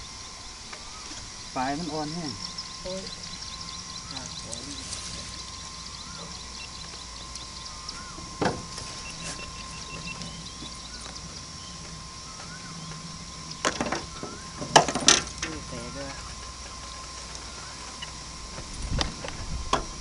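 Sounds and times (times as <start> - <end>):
small motor whining: 0.0 - 20.0.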